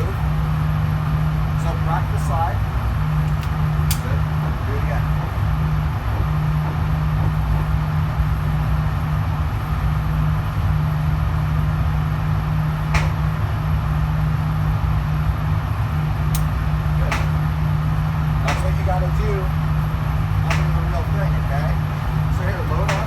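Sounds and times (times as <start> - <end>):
air handling droning hum: 0.0 - 23.0.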